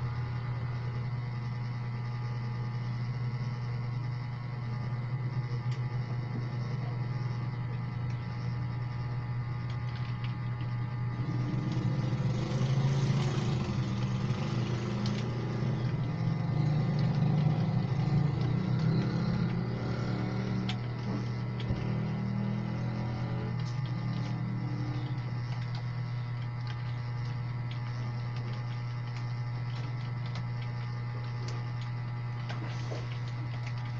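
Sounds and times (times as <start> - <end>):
low hum: 0.0 - 33.9.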